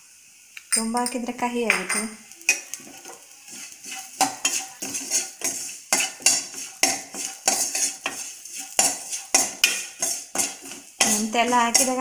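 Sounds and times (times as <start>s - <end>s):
food frying in oil: 0.0s - 12.0s
metal spoon scraping a pan: 2.0s - 12.0s.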